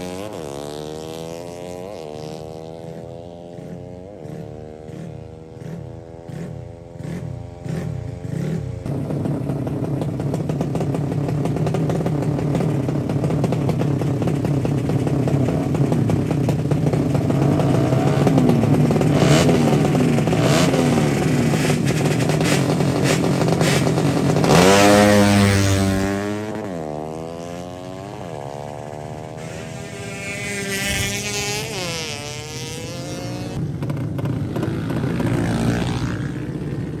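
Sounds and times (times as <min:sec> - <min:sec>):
motorcycle engines revving: 0:00.0 - 0:37.0
motorcycle passing close: 0:00.0 - 0:37.0.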